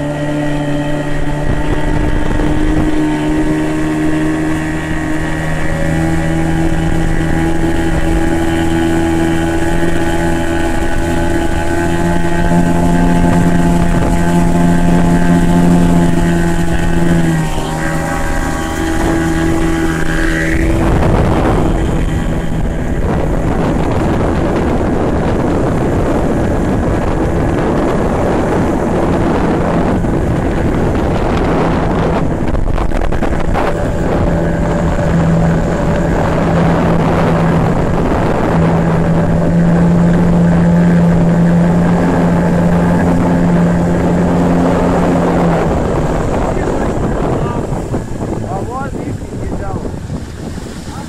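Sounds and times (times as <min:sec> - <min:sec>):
outboard motor running: 0:00.0 - 0:51.0
rush of wind and water: 0:00.0 - 0:51.0.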